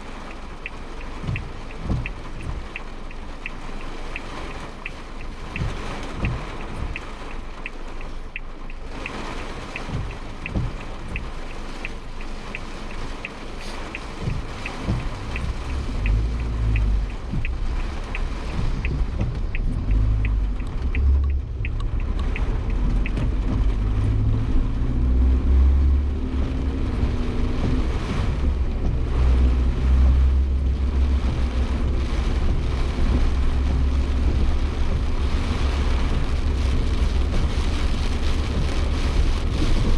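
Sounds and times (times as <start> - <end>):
car engine and road rumble: 0.0 - 39.9
rain beating on a car: 0.0 - 39.9
turn signal relay ticking: 0.0 - 39.9.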